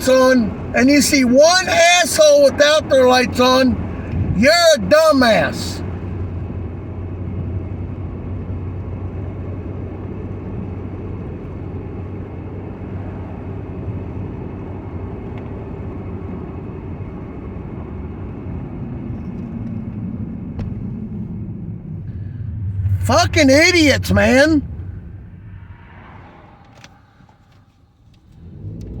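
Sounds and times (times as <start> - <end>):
engine and drivetrain hum: 0.0 - 29.0.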